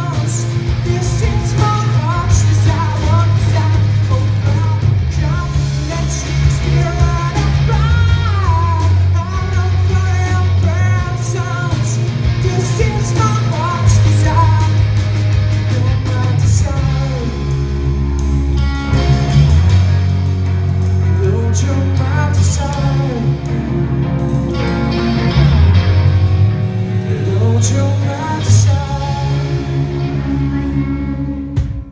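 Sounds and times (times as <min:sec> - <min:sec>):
man singing: 0:00.0 - 0:18.0, 0:21.0 - 0:23.8, 0:26.9 - 0:31.9
bass line: 0:00.0 - 0:31.9
drums: 0:00.0 - 0:31.9
electric guitars: 0:00.0 - 0:31.9.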